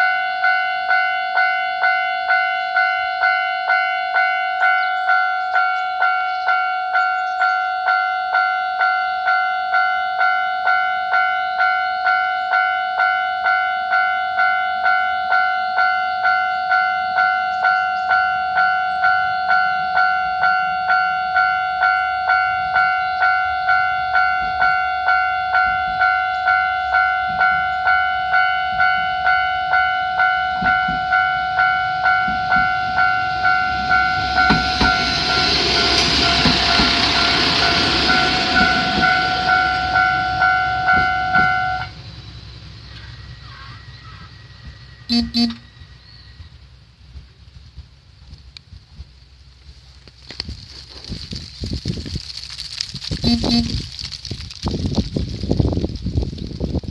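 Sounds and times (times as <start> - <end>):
level-crossing warning bell: 0.0 - 46.0, 53.2 - 53.8
railcar rumble: 0.0 - 56.9.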